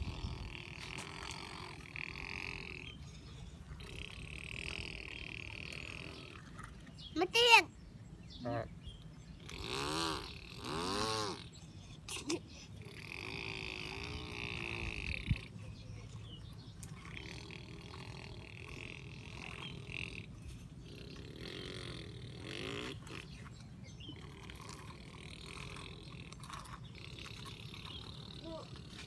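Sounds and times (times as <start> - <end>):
child making engine mouth noises: 0.0 - 6.6, 7.2 - 7.7, 9.4 - 15.8, 16.8 - 23.4, 24.1 - 29.0.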